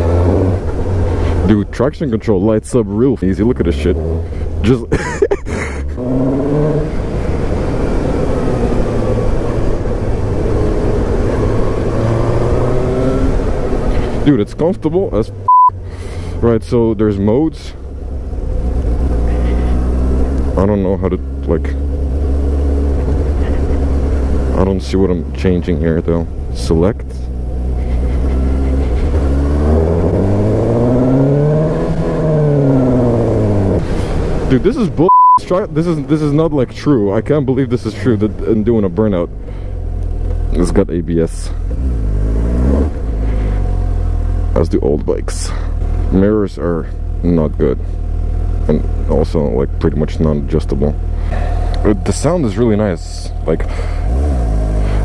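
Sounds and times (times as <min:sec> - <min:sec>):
motorcycle engine accelerating: 0:00.0 - 0:01.7, 0:05.7 - 0:35.0, 0:35.8 - 0:55.0.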